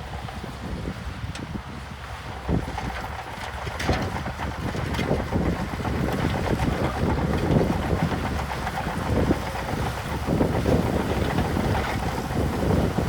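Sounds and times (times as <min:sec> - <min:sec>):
diesel machinery rumbling: 0:00.0 - 0:13.0
wind buffeting microphone: 0:00.0 - 0:13.0.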